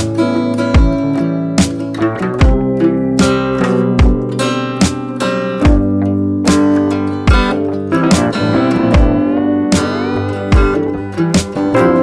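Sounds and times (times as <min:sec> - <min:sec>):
guitar music over loudspeaker: 0:00.0 - 0:12.0.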